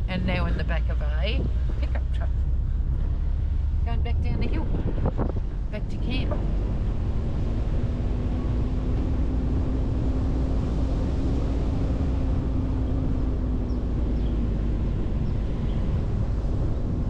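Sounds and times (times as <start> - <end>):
constant hum: 0.0 - 17.0
engine and road rumble: 0.0 - 17.0.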